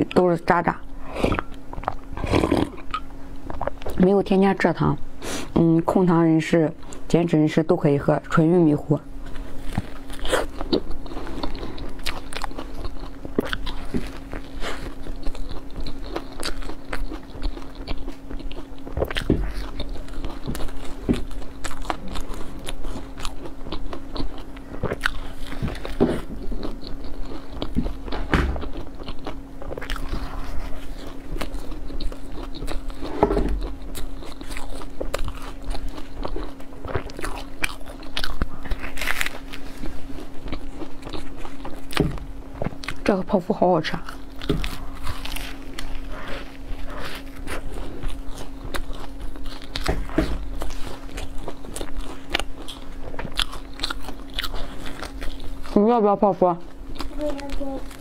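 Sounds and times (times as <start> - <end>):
steady low hum: 0.0 - 58.0
crunchy biting and chewing: 0.6 - 4.0, 8.6 - 43.2, 43.9 - 55.9, 56.7 - 58.0.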